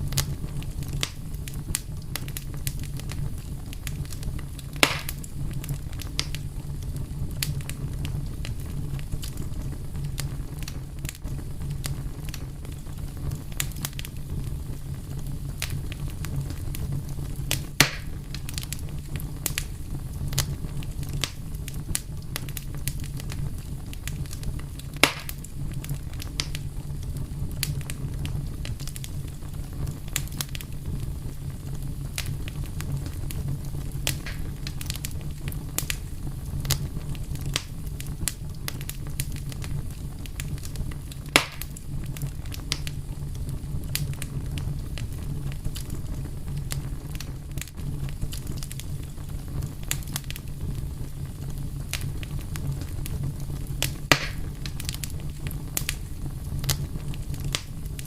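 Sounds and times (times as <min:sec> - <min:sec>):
fire crackling: 0:00.0 - 0:58.0
loud fire pops: 0:00.0 - 0:58.0
low fire rumble: 0:00.0 - 0:58.0.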